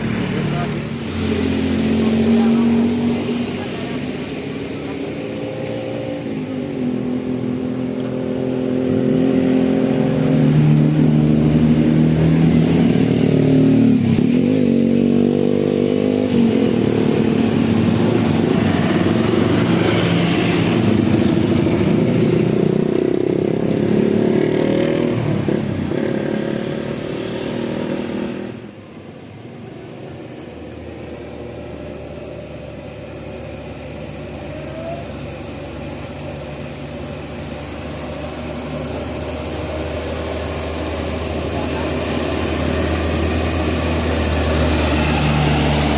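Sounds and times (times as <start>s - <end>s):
vehicle sound: 0.0s - 45.9s.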